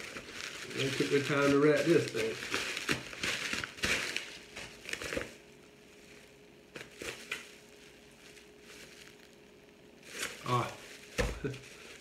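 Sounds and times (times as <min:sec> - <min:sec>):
bubble wrap crinkling: 0:00.0 - 0:12.0
faint steady hum: 0:00.0 - 0:12.0.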